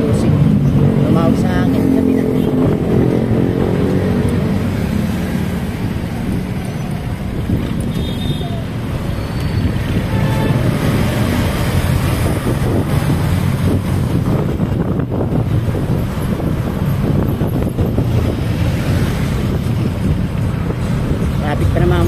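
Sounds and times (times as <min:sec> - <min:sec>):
engine and road noise: 0:00.0 - 0:22.0
wind buffeting microphone: 0:00.0 - 0:22.0.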